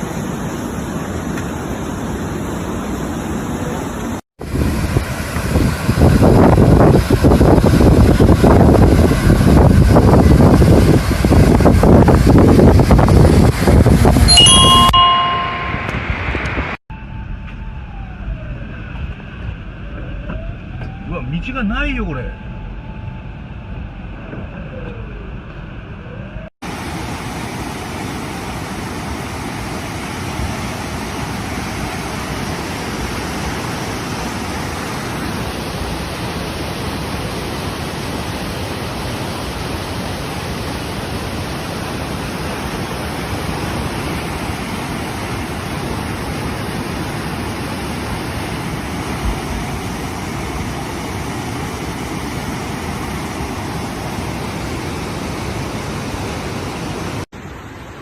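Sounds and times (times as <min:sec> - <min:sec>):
rush of floodwater: 0:00.0 - 0:15.7, 0:26.6 - 0:58.0.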